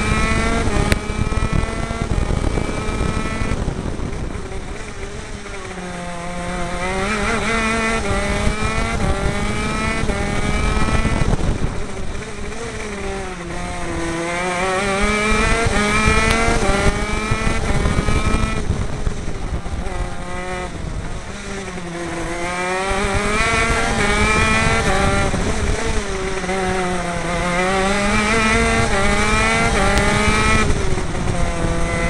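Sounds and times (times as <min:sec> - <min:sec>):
kart engine revving: 0:00.0 - 0:32.0
wind and track noise: 0:00.0 - 0:32.0.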